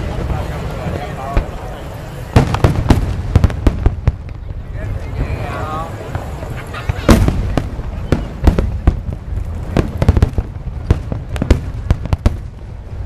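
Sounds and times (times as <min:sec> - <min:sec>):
fireworks cracking and banging: 0:00.0 - 0:13.0
low rumble of fireworks: 0:00.0 - 0:13.0.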